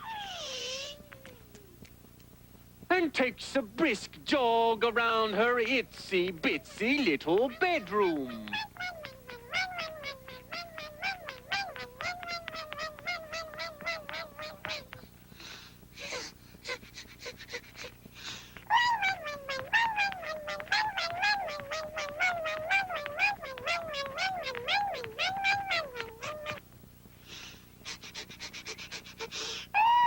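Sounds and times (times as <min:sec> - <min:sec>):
rapid light footsteps: 0:05.0 - 0:29.5.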